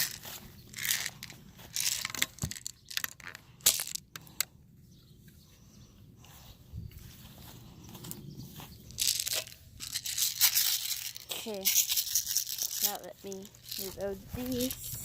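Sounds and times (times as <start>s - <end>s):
crunching and rustling: 0.0s - 4.4s, 6.2s - 15.0s.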